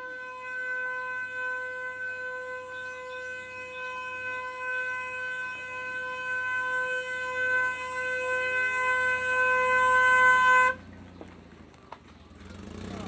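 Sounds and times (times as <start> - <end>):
car horn steady note: 0.0 - 10.9.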